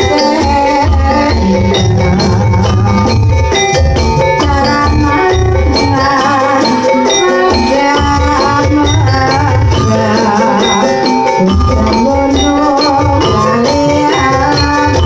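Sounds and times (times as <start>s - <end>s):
gamelan ensemble playing: 0.0s - 15.0s.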